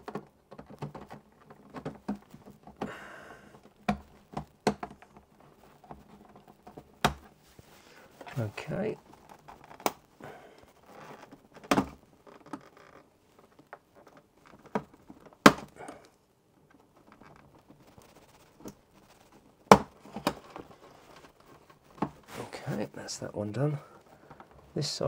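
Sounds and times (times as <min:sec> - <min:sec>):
faint plastic scraping: 0:00.0 - 0:25.0.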